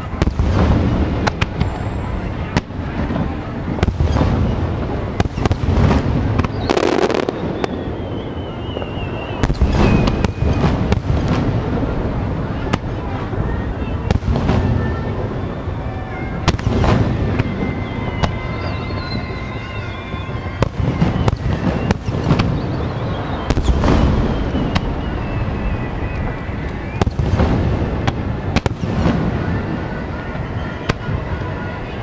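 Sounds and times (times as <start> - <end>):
fireworks cracking and crackling: 0.0 - 32.0
fireworks shells booming: 0.0 - 32.0.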